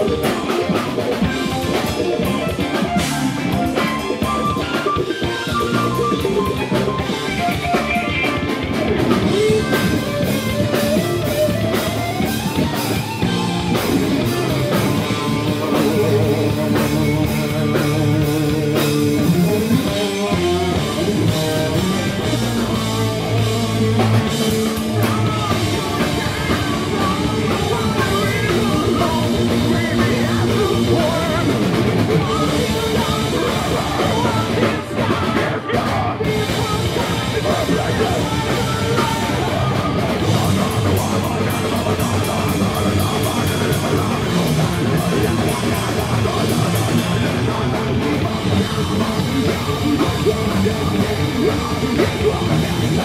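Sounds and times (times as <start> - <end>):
bass guitar: 0.0 - 53.0
distorted electric guitars: 0.0 - 53.0
drum kit: 0.0 - 53.0.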